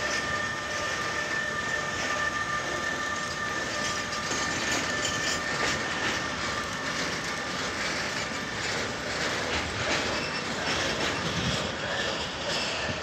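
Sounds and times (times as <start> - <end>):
clatter over rail joints: 0.0 - 13.0
train wheels rumbling on rails: 0.0 - 13.0.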